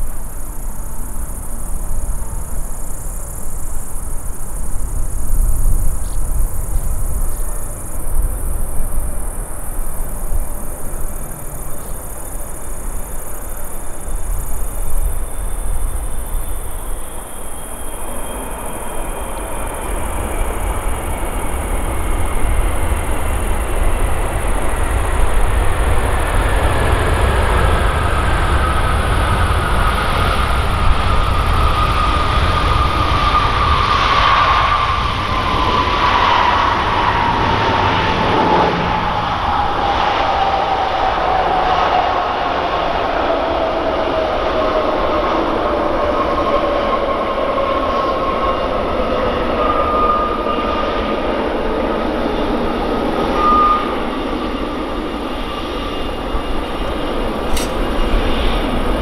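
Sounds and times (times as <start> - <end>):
jet engine rumble and hiss: 0.0 - 59.0
jet engine whine falling: 0.0 - 59.0.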